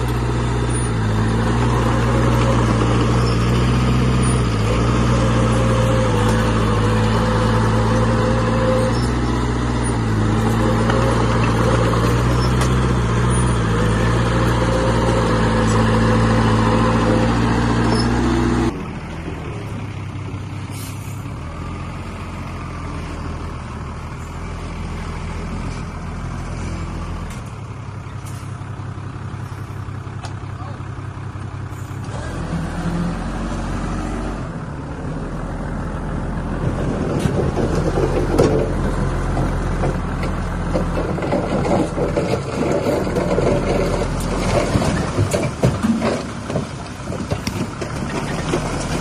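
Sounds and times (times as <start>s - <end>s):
diesel construction machinery running: 0.0s - 49.0s.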